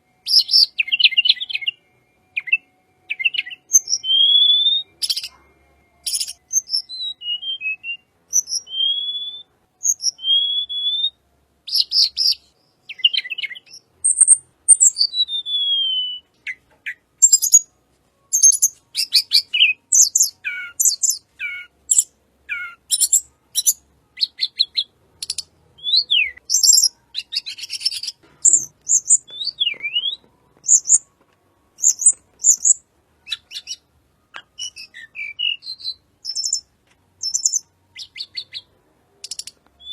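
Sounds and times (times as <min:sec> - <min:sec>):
bird singing whistled notes and trills: 0:00.0 - 0:39.9.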